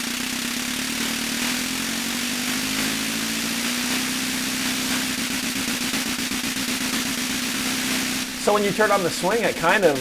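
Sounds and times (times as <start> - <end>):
buzzing snare drum drone: 0.0 - 10.0.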